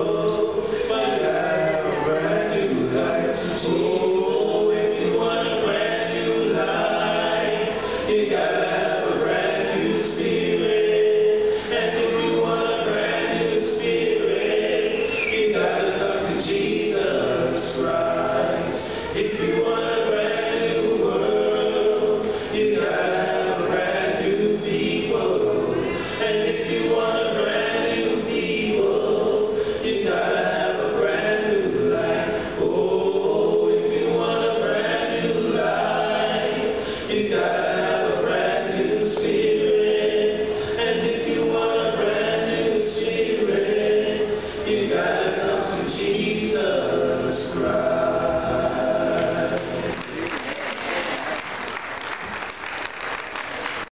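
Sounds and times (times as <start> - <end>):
male vocal group singing harmony: 0.0 - 50.1.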